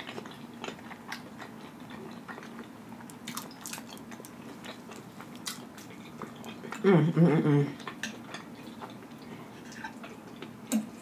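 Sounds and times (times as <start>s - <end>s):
person chewing with wet smacks: 0.0s - 11.0s.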